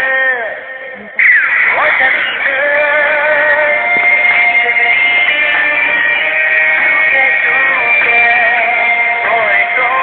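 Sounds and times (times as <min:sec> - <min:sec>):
instrumental music with held notes: 0:01.2 - 0:10.0.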